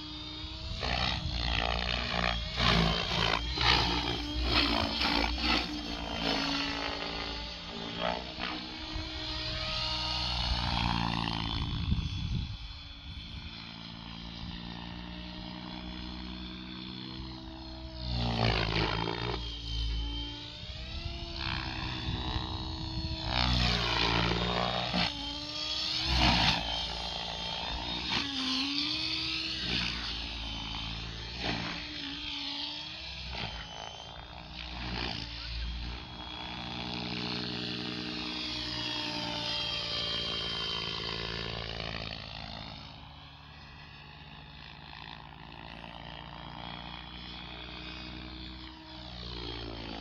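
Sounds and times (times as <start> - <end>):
rotor blades swishing: 0.0 - 43.2
helicopter motor and rotor whine: 0.0 - 50.0.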